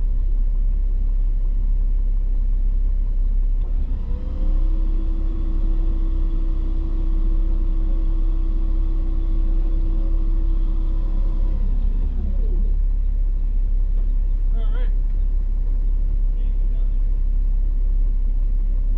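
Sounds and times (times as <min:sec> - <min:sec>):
steady whine: 0:00.0 - 0:18.9
vehicle engine rumbling: 0:00.0 - 0:18.9.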